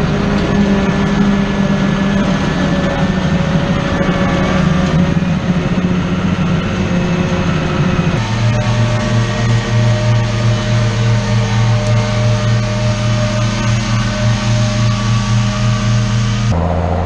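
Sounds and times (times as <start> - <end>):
heavy farm machinery engine: 0.0 - 17.0.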